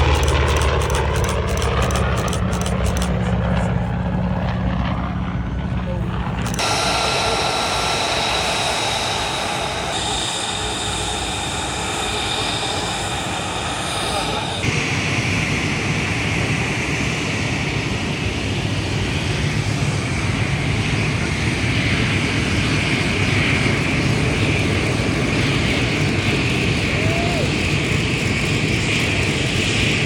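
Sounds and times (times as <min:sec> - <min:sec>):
aircraft engine running: 0:00.0 - 0:30.0.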